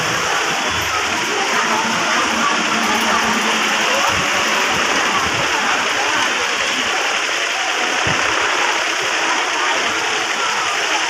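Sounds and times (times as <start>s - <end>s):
crowd babble: 0.0s - 11.0s.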